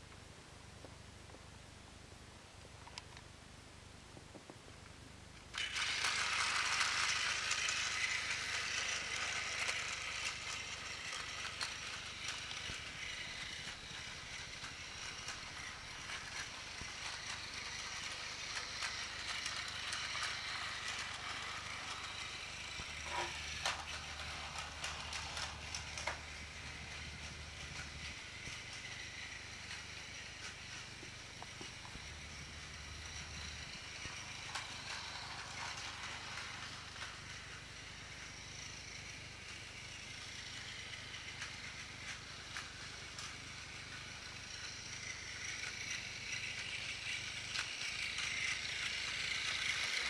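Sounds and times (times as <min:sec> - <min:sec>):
toy train motor whirring: 0:05.5 - 0:50.0.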